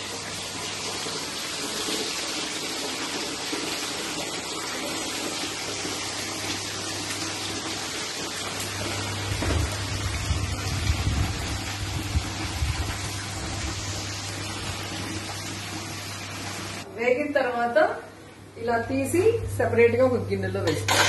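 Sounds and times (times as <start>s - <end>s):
chicken deep-frying in oil: 0.0s - 16.9s.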